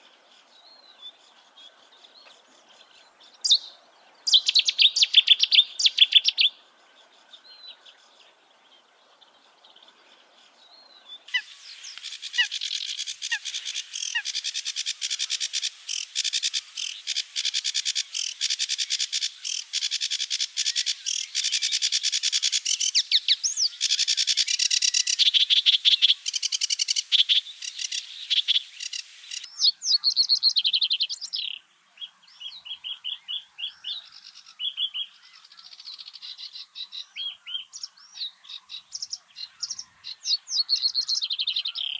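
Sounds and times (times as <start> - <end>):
songbirds chirping and twittering: 0.0 - 41.9.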